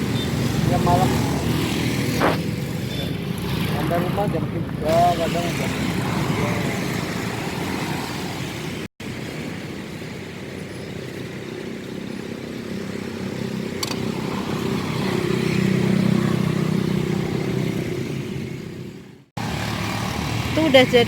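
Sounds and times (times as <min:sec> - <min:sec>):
vehicle engine passing: 0:00.0 - 0:10.5, 0:11.2 - 0:21.0.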